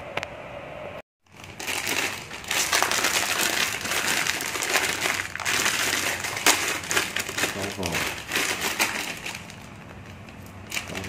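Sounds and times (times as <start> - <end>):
plastic packaging crinkling: 1.3 - 11.0.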